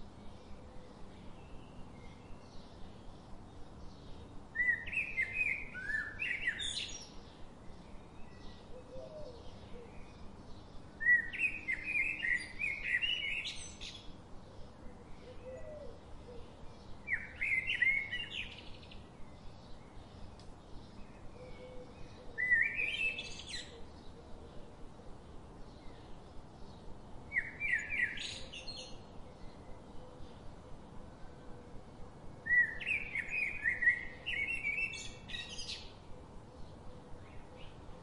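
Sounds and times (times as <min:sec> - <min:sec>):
songbird singing warbled song: 0:00.0 - 0:38.0.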